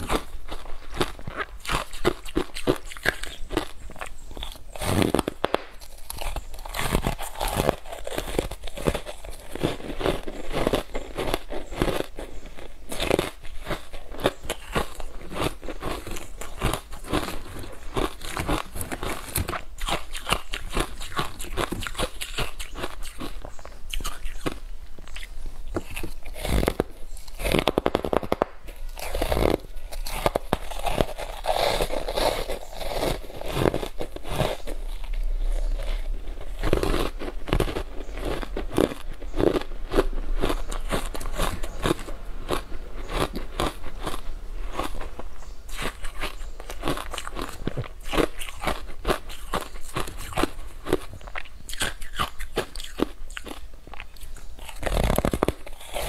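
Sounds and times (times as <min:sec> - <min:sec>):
ice crunching while chewed: 0:00.0 - 0:56.0.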